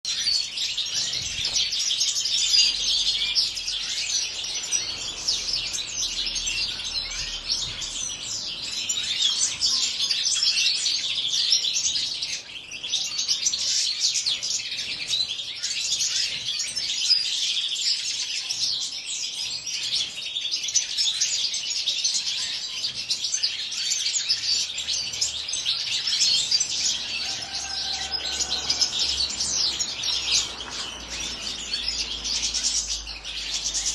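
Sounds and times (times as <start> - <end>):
finches twittering and singing: 0.0 - 33.9.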